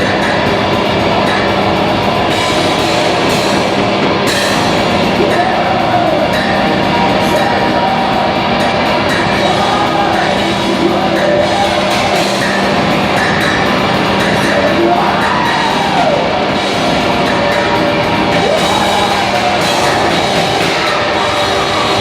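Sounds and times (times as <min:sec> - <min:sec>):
distorted drone music: 0:00.0 - 0:22.0.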